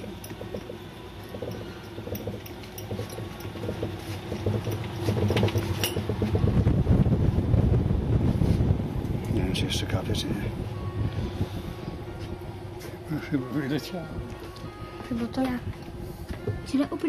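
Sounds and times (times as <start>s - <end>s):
spinning basket rumble: 0.0s - 17.0s.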